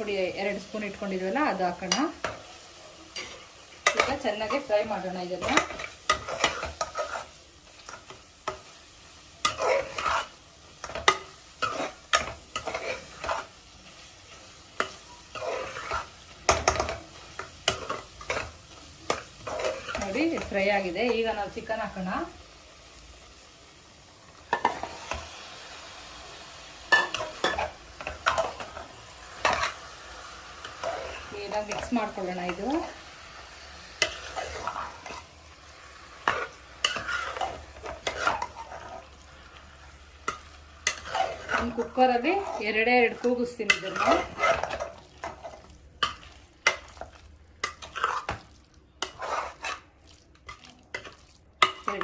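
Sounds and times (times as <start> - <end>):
utensil scraping a pan: 0.0 - 8.8, 9.4 - 22.0, 26.9 - 39.1, 40.2 - 52.0
food sizzling in a pan: 0.0 - 52.0.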